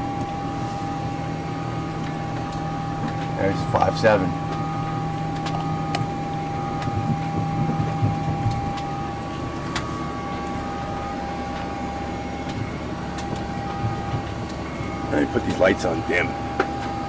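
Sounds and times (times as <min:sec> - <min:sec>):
aircraft rumble and hum: 0:00.0 - 0:17.0
low hum: 0:00.0 - 0:17.0
thin whining tone: 0:00.0 - 0:17.0.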